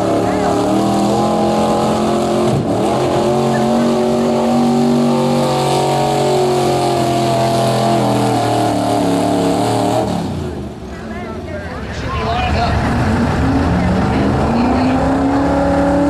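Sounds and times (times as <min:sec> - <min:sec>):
truck engine at high revs: 0:00.0 - 0:16.0.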